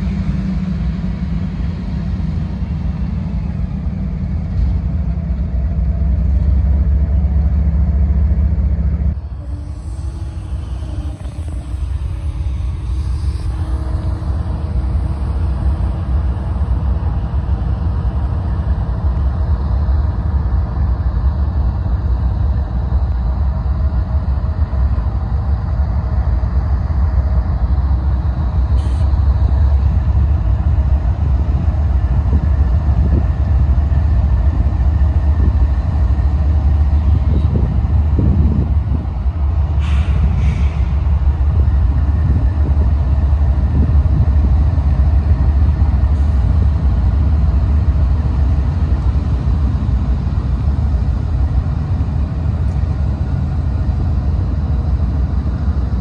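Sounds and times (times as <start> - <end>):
freight locomotives rumbling past: 0.0 - 56.0.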